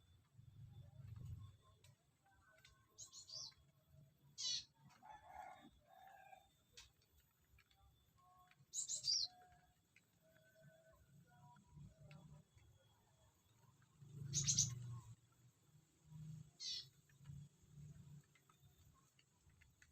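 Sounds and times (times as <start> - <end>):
small birds chirping: 0.0 - 4.8, 6.8 - 10.0, 11.3 - 19.9
quiet low bird calls: 0.0 - 19.9.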